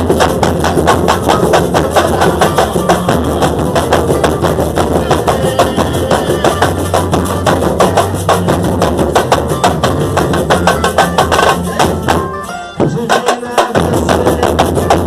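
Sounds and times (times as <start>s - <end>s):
steady bass: 0.0s - 13.1s, 13.8s - 15.0s
drumming and rattling percussion: 0.0s - 15.0s.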